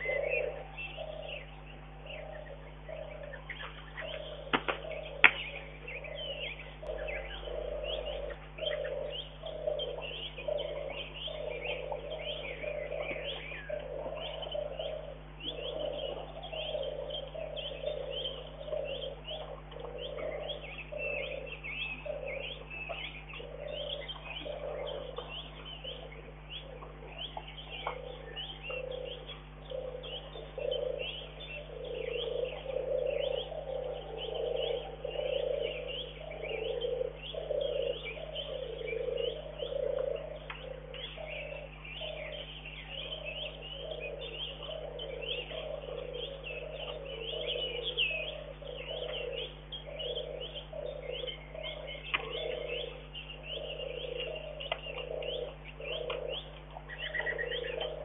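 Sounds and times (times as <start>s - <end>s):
faint electrical hum: 0.0s - 58.0s
lower bird call: 0.0s - 58.0s.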